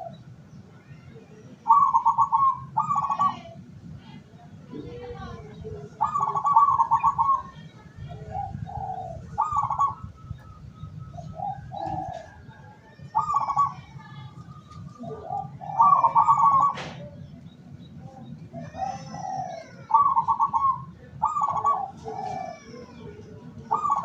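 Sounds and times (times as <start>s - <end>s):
doves cooing: 0.0s - 0.5s, 1.1s - 3.8s, 4.7s - 24.0s.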